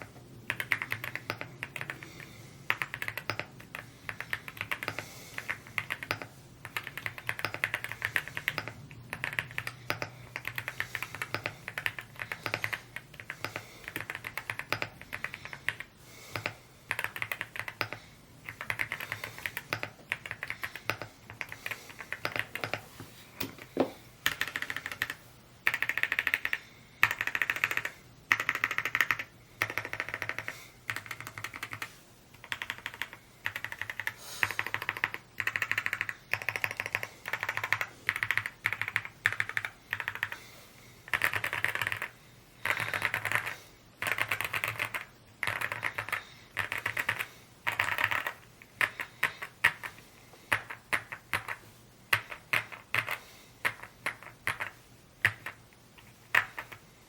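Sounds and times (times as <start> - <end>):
mechanical keyboard typing: 0.0 - 22.8, 24.2 - 40.4, 41.1 - 56.8.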